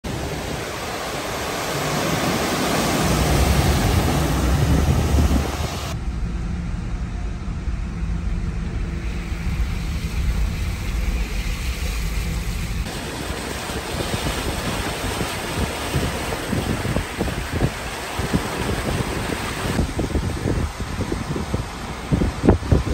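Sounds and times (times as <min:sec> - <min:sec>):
tyres through water: 0:00.0 - 0:06.0, 0:09.0 - 0:22.9
wind buffeting microphone: 0:00.0 - 0:22.9
low rumble: 0:02.7 - 0:22.9.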